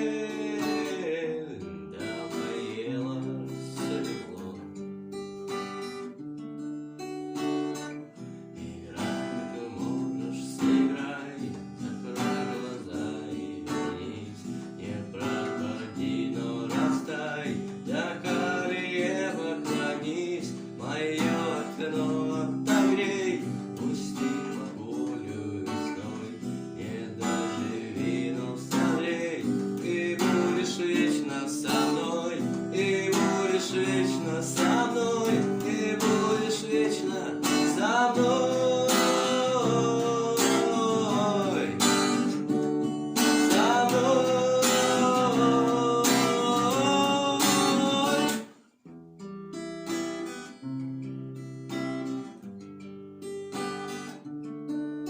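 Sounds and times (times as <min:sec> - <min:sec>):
person singing: 0:00.0 - 0:04.9, 0:08.6 - 0:48.7
picked guitar notes: 0:00.0 - 0:54.9
acoustic guitar strumming: 0:00.0 - 0:55.0.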